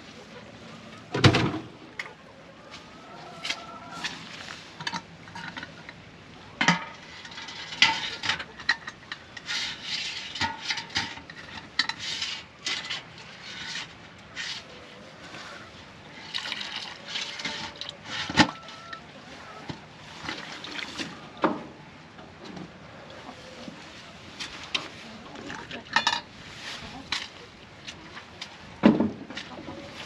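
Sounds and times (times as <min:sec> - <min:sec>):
water sloshing and splashing: 0:00.0 - 0:30.0.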